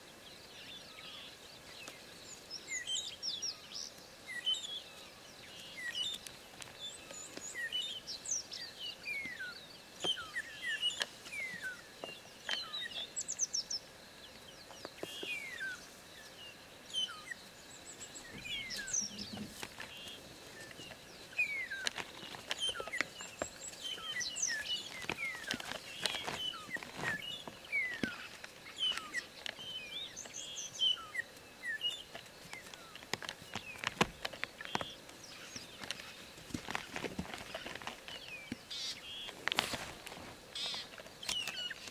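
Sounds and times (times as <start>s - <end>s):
birds whistling and chirping: 0.4s - 39.8s, 40.5s - 41.9s.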